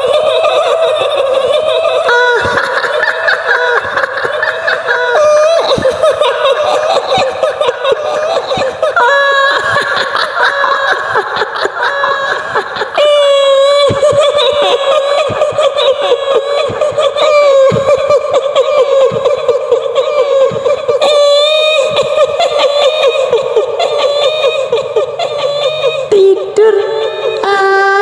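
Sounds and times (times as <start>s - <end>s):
shrill female cackle: 0.0s - 28.0s.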